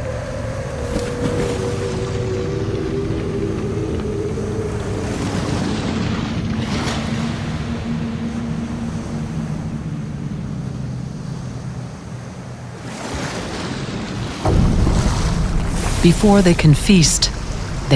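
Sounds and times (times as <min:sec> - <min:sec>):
low held drone tones: 0:00.0 - 0:12.7, 0:14.5 - 0:17.9
sea wash: 0:00.0 - 0:17.9.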